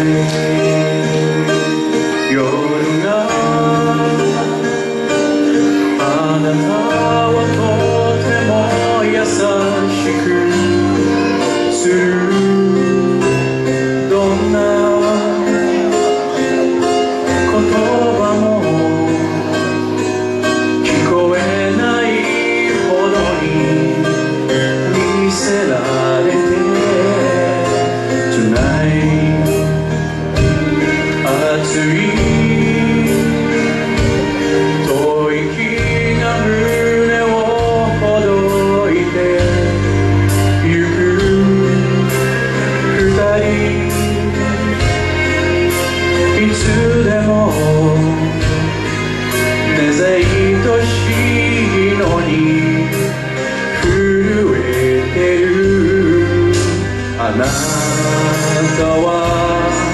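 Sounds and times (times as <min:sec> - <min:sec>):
karaoke backing track: 0:00.0 - 0:59.9
man singing into a microphone: 0:00.0 - 0:59.9.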